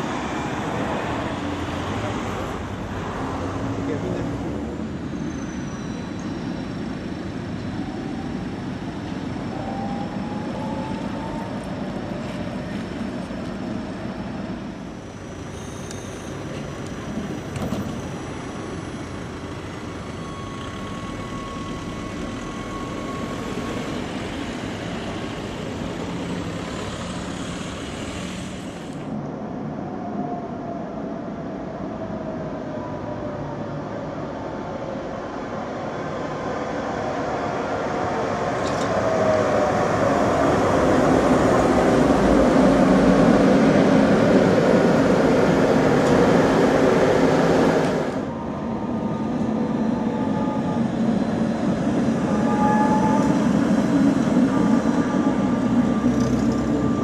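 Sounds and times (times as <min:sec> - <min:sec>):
tram wheel and rail rumble: 0:00.0 - 0:57.0
tram motor whine sliding down: 0:04.7 - 0:31.2, 0:31.9 - 0:57.0.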